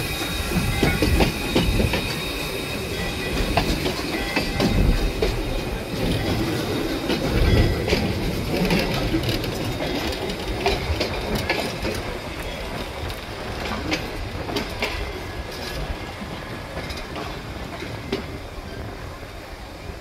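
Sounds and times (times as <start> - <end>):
railroad cars rolling on steel wheels: 0.0 - 20.0
wheels clicking over rail joints: 0.2 - 19.0.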